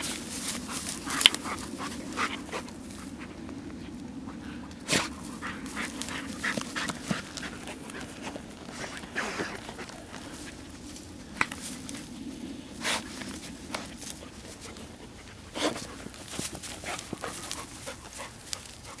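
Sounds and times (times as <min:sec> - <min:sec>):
dog sniffing: 0:00.0 - 0:11.0, 0:12.7 - 0:19.0
rustling and scraping in grass: 0:00.0 - 0:19.0.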